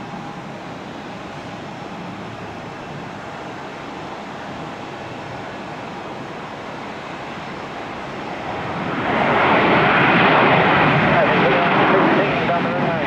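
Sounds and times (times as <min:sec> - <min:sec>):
jet airliner engines rushing: 0:00.0 - 0:13.0.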